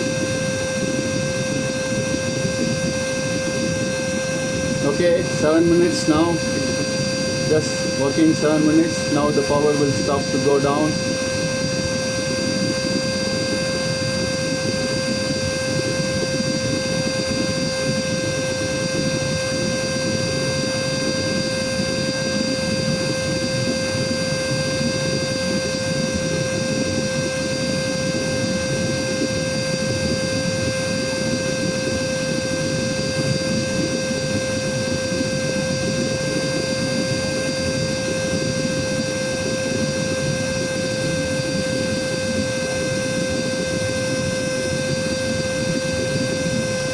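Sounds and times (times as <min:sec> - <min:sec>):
vacuum cleaner motor whine: 0:00.0 - 0:46.9.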